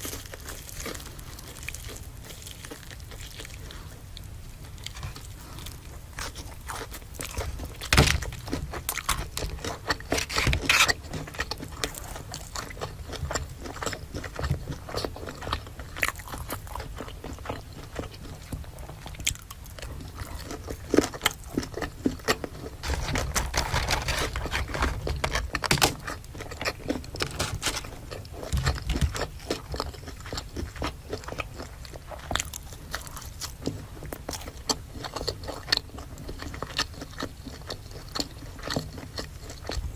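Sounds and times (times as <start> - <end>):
crunchy chewing of fried food: 0.0 - 39.9.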